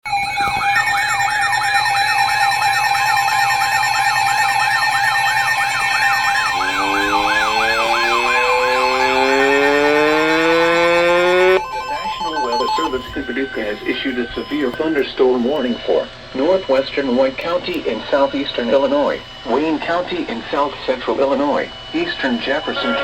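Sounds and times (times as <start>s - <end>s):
siren wailing: 0.1s - 23.0s
steady tone: 4.1s - 23.0s.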